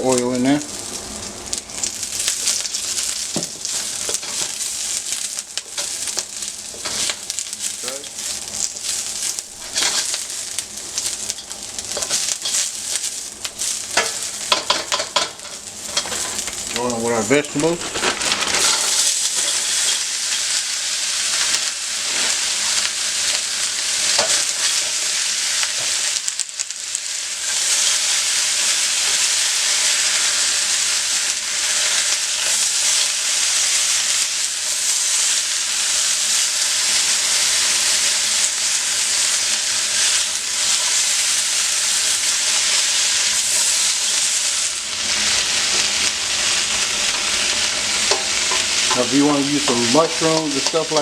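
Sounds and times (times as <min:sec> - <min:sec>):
vegetables sizzling in oil: 0:00.0 - 0:51.0.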